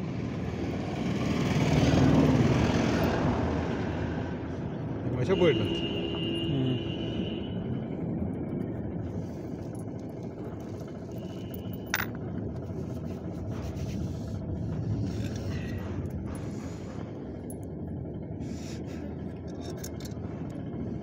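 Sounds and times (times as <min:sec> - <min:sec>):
steady rumbling background noise: 0:00.0 - 0:21.0.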